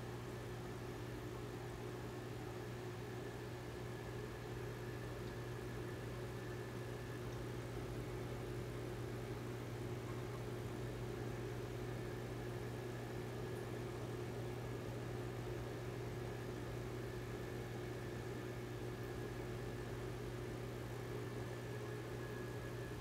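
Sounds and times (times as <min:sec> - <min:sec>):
aquarium pump humming: 0:00.0 - 0:23.0.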